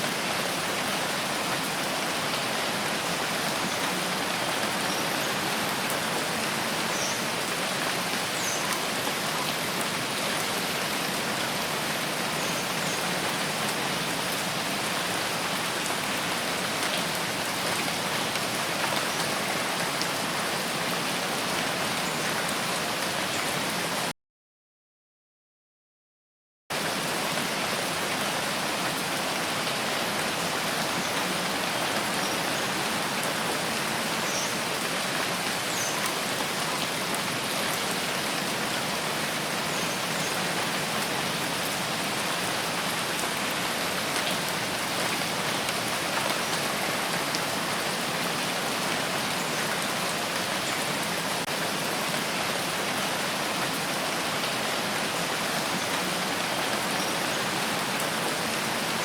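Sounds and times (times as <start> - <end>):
steady rain falling: 0.0 - 24.1, 26.7 - 59.0.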